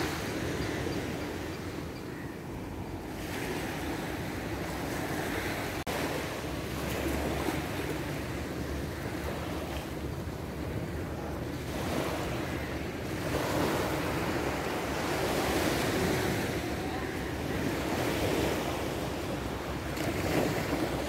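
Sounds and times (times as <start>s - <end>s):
ocean surf washing onto beach: 0.0s - 0.8s, 3.0s - 21.0s.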